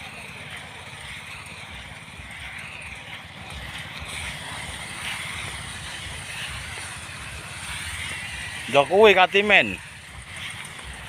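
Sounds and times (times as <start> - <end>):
rice thresher engine running: 0.0 - 11.0.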